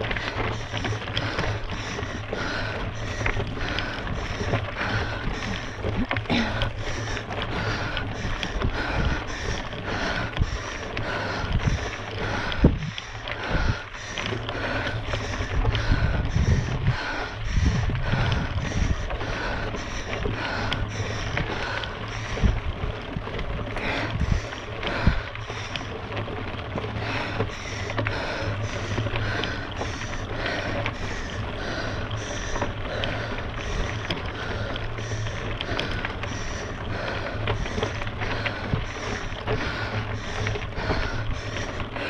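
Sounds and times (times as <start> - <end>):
bike drivetrain and tyre noise: 0.0 - 42.0
soft rhythmic pulse: 0.0 - 42.0.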